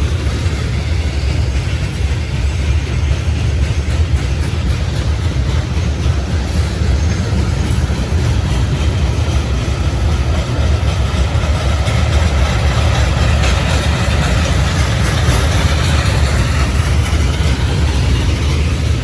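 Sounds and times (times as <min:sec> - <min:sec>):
diesel freight train rumbling: 0:00.0 - 0:19.0.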